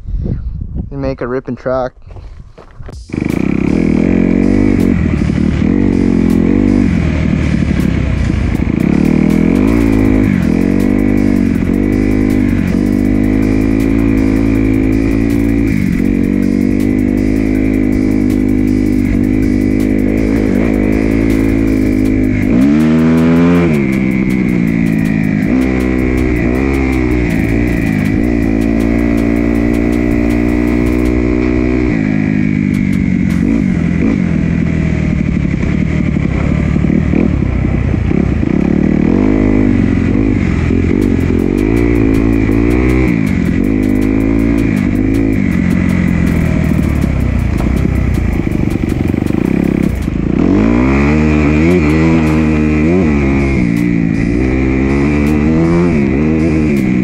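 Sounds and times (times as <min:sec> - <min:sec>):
dirt bike engine revving: 0:03.0 - 0:57.0.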